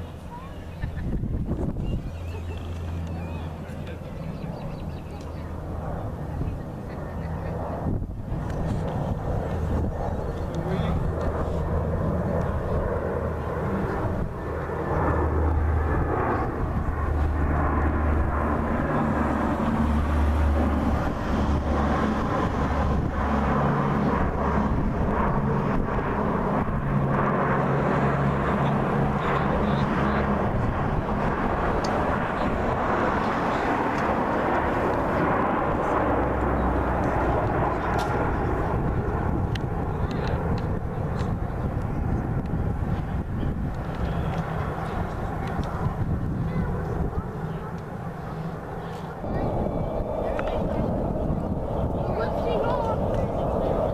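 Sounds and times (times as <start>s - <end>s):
airplane engine noise: 0.0s - 53.9s.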